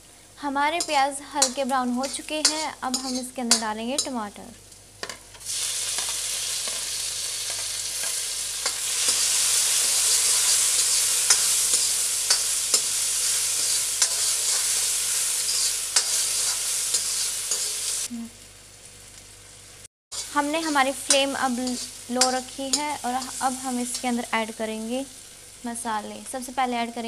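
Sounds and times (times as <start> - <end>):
vegetables sizzling in hot oil: 0.4 - 27.0.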